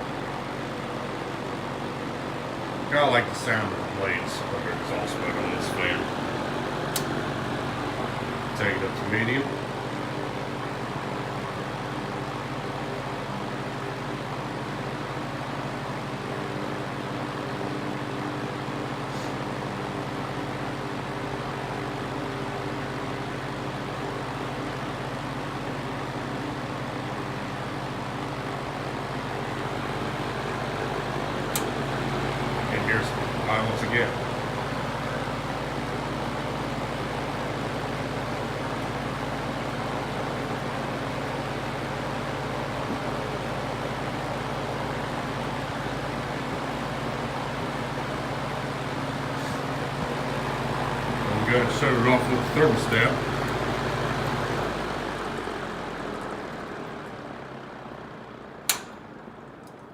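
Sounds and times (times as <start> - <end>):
rush of air from fan: 0.0 - 58.9
fan motor hum: 0.0 - 59.9.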